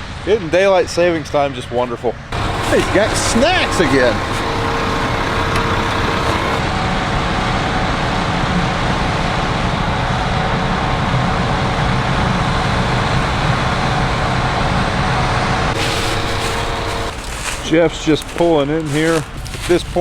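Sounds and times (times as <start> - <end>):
diesel machinery engine drone: 2.3 - 19.7.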